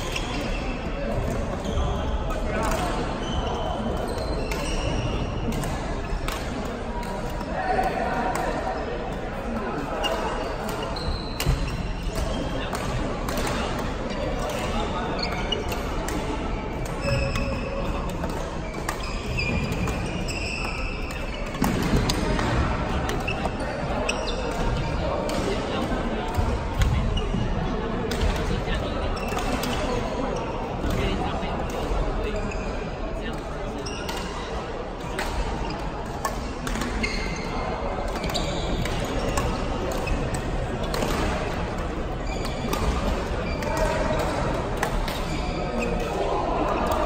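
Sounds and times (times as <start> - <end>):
sports hall din: 0.0 - 47.0
rackets striking shuttlecocks: 2.3 - 27.1, 27.9 - 29.8, 33.3 - 47.0.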